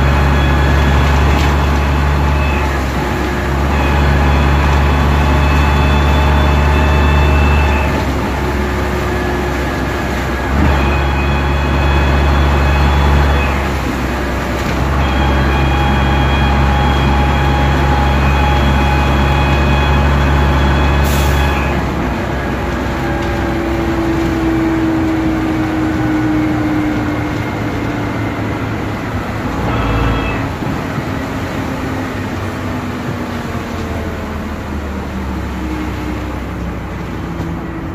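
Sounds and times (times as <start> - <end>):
bus engine pulling hard: 0.0 - 37.9
falling whine of slowing bus: 0.0 - 37.9.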